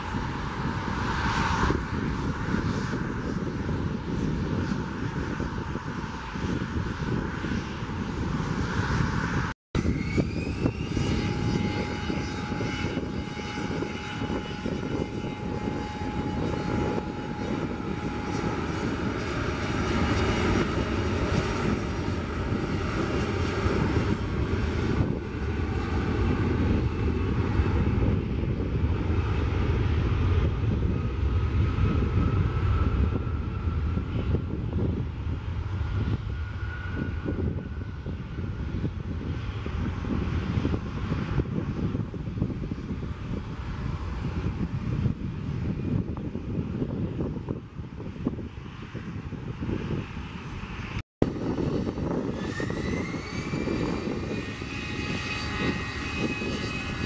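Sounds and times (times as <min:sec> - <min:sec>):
jet engines whining: 0:00.0 - 0:57.0
low rumble: 0:00.0 - 0:57.0.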